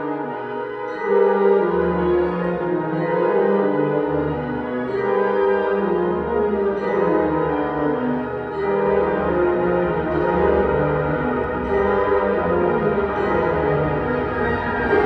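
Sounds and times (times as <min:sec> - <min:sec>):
wind band playing slow chords: 0:00.0 - 0:15.0.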